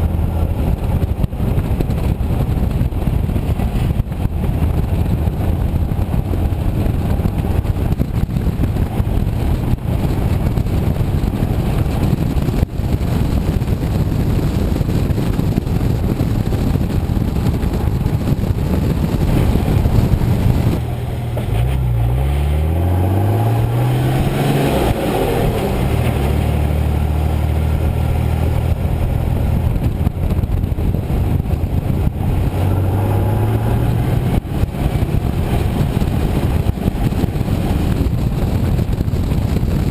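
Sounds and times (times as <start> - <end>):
diesel engine rumbling and revving: 0.0 - 39.9.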